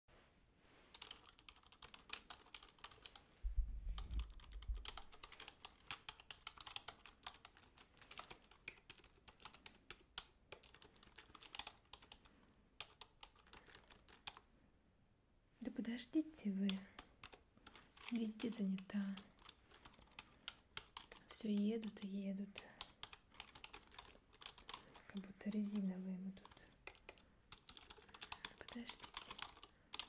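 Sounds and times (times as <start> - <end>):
computer keyboard typing: 0.9 - 3.2, 4.0 - 14.4, 16.6 - 30.0.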